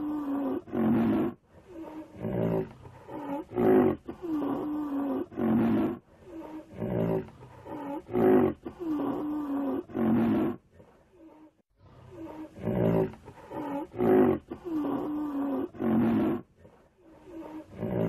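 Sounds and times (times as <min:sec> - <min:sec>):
animal roaring and growling: 0:00.0 - 0:10.6, 0:11.8 - 0:16.5, 0:17.1 - 0:18.0.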